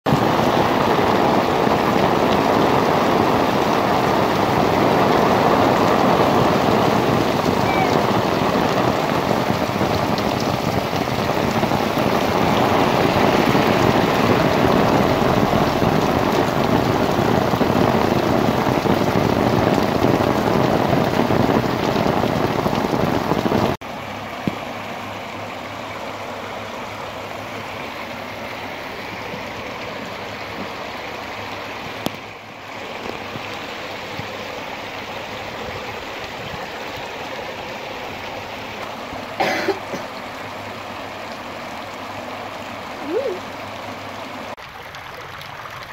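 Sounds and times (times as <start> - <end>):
heavy rain on pavement: 0.1 - 45.9
rainwater running along kerb: 0.1 - 45.9.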